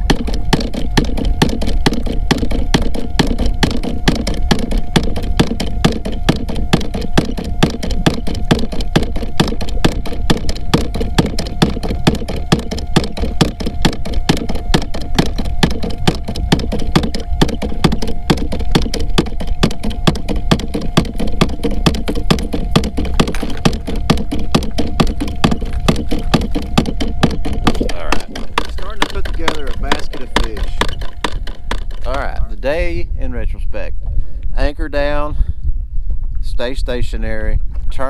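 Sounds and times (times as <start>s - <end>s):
rapid mechanical knocking: 0.0s - 32.5s
steady motor hum: 0.0s - 38.0s.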